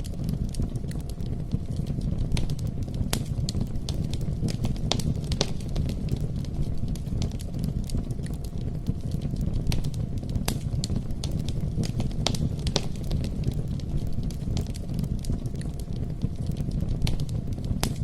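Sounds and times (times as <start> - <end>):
campfire rushing: 0.0 - 18.0
wood crackling and popping: 0.0 - 18.0.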